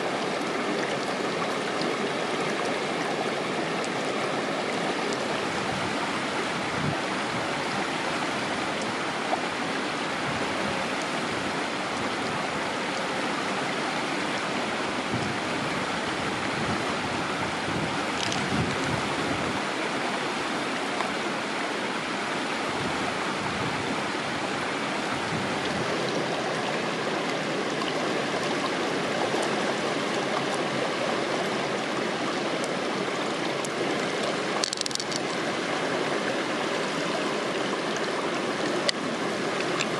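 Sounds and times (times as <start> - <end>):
shallow stream running: 0.0 - 39.9.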